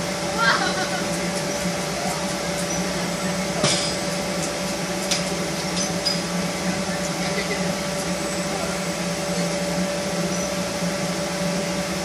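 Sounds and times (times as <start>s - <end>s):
electric machine motor hum: 0.0s - 12.0s.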